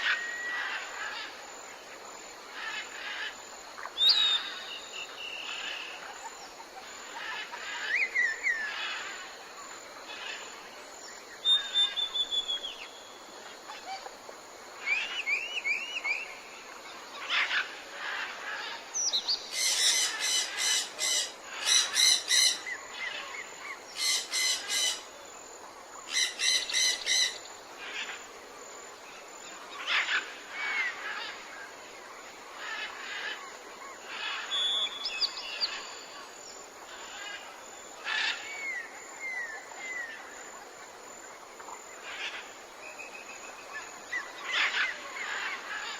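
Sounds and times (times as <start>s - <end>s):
jungle birds calling: 0.0s - 1.4s, 2.4s - 25.2s, 26.0s - 28.4s, 29.1s - 45.9s
forest ambience hiss: 0.0s - 45.9s.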